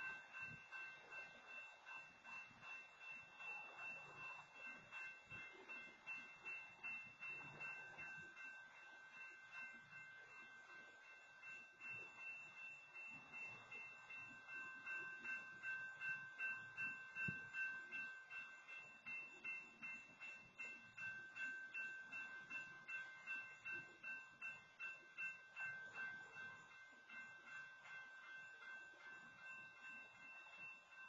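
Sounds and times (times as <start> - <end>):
railroad crossing bell ringing: 0.0 - 31.0.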